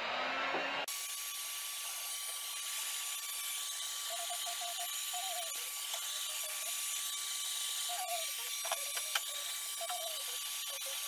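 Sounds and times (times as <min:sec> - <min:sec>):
heat gun blowing: 0:00.0 - 0:11.0.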